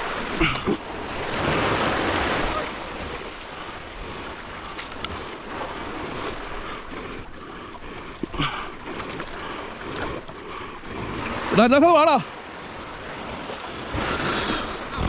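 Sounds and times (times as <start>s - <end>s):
waves washing against concrete: 0.0s - 15.0s.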